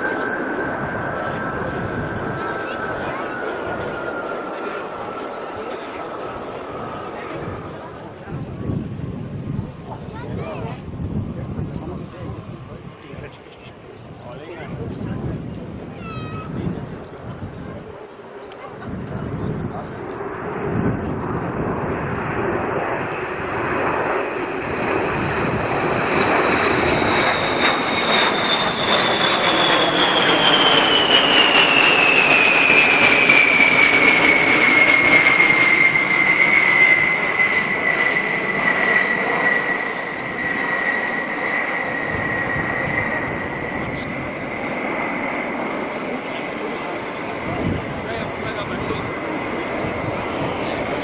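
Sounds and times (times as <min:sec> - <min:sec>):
jet engines roaring with whine: 0:00.0 - 0:51.0.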